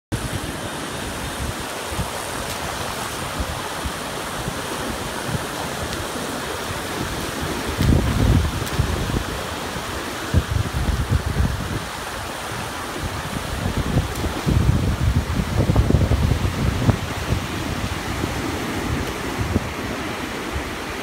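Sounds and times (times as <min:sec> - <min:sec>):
ocean surf breaking on beach: 0:00.1 - 0:21.0
wind buffeting microphone: 0:00.2 - 0:21.0.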